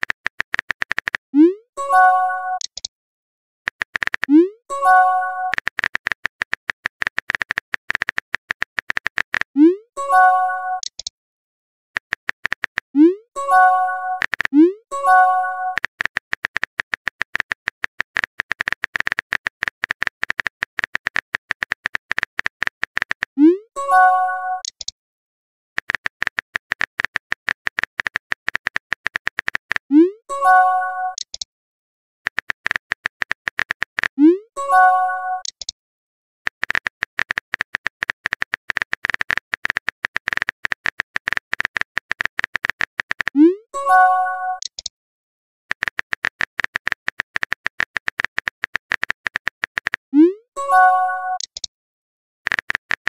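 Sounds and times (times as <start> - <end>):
keyboard typing clicks: 0.0 - 2.9, 3.7 - 11.1, 12.0 - 25.0, 25.8 - 31.5, 32.3 - 35.8, 36.5 - 44.9, 45.7 - 51.7, 52.5 - 53.0.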